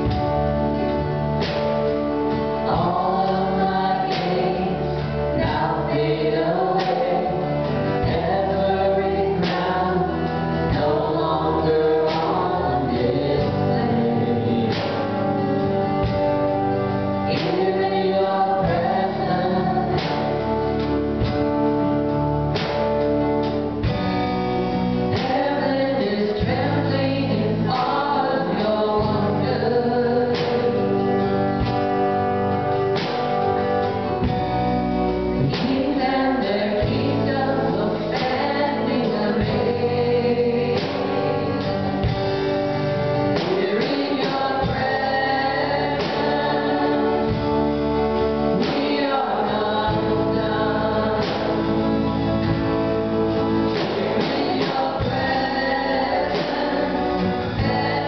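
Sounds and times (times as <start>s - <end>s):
drum kit: 0.0s - 58.0s
guitars: 0.0s - 58.0s
keyboard: 0.0s - 58.0s
voices singing together: 0.0s - 58.0s.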